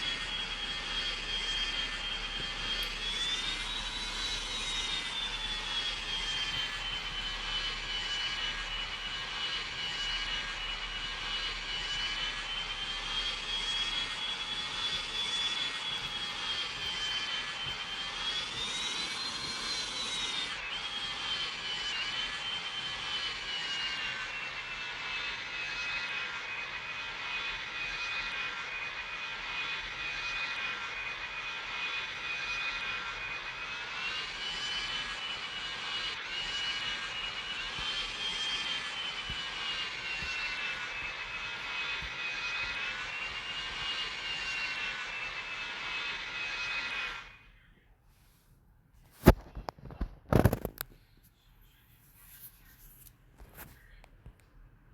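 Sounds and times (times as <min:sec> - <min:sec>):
jet engines whining: 0:00.0 - 0:47.7.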